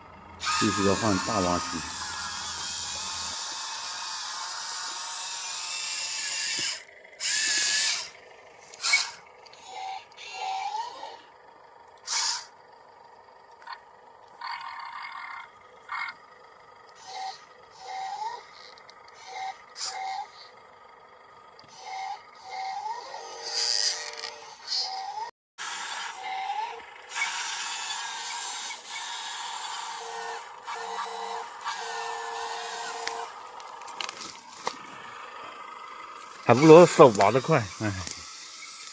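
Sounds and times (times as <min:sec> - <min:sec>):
electric motors and gears whirring: 0:00.0 - 0:38.9.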